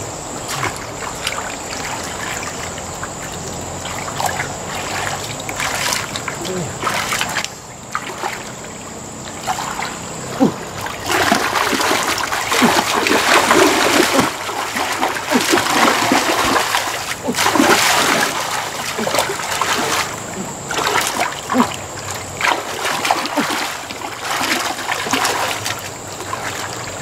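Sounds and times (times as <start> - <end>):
muddy water splashing: 0.0 - 27.0.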